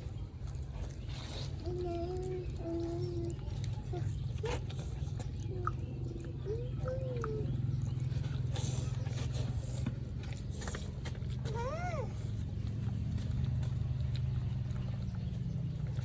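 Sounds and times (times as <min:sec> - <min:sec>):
puppies whimpering: 0:00.7 - 0:09.7, 0:10.5 - 0:16.0.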